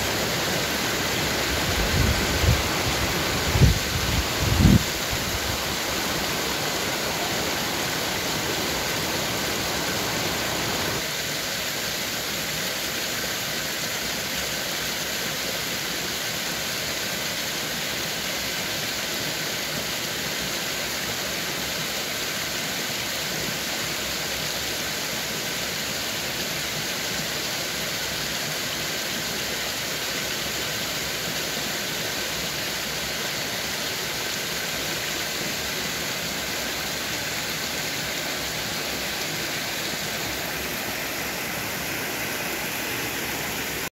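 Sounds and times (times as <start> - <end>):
waterfall splashing over rocks: 0.0 - 43.9.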